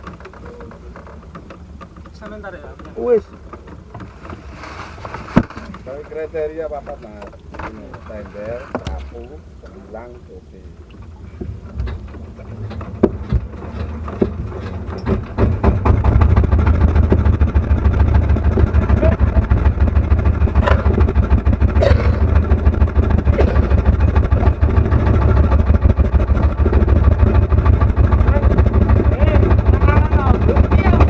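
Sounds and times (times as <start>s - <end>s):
small boat engine pulsing: 0.0s - 31.0s.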